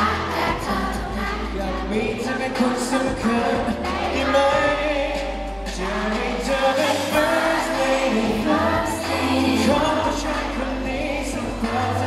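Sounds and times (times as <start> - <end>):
pop accompaniment: 0.0 - 12.0
man singing into a microphone: 1.4 - 12.0.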